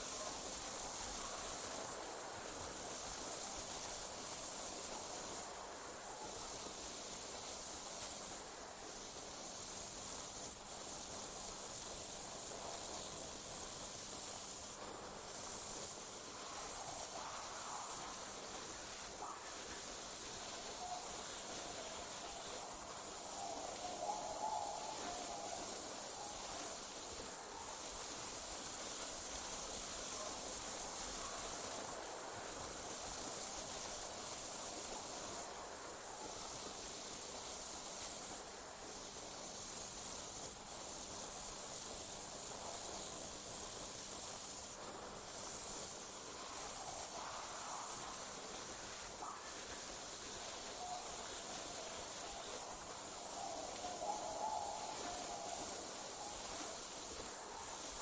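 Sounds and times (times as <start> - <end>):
crickets trilling: 6.2 - 58.0.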